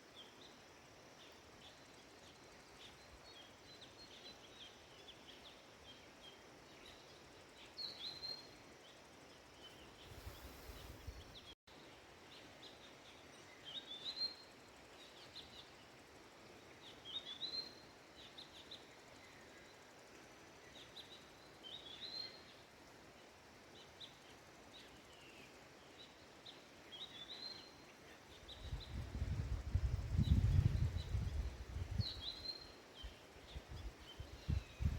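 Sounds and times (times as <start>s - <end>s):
bird chirping song: 0.0s - 20.0s, 20.6s - 34.9s
faint outdoor hiss: 0.0s - 34.9s.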